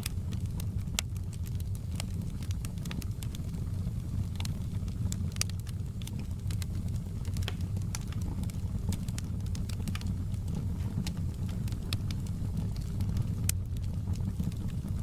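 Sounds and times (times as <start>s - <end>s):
fire pops and snaps: 0.0s - 15.0s
log fire crackling: 0.0s - 15.0s.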